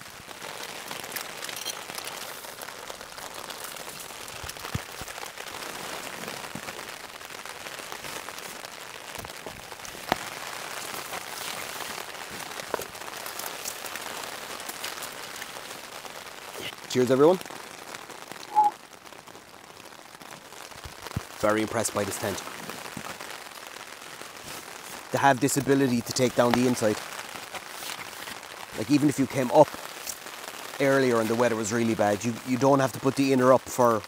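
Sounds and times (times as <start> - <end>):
rain pattering on tent: 0.0 - 34.0.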